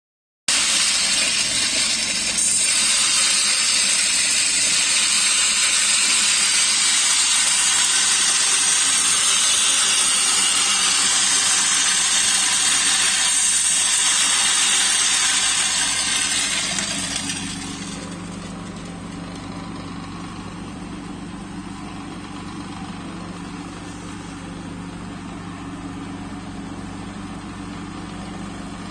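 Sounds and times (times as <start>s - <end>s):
grain mill rushing noise: 0.5s - 28.9s
motor hum: 0.5s - 28.9s.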